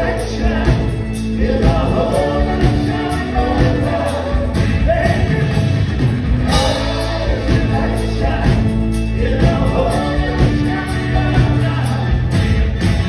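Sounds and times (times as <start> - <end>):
voices singing in harmony: 0.0 - 5.6, 6.4 - 13.0
bass guitar: 0.0 - 13.0
drums: 0.0 - 13.0
electric guitar: 0.0 - 13.0
keyboards: 0.0 - 13.0.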